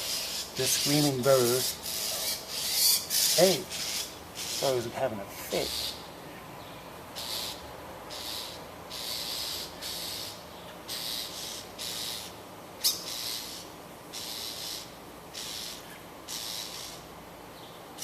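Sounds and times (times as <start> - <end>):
bird harsh rasping calls: 0.0 - 6.2, 7.1 - 17.2.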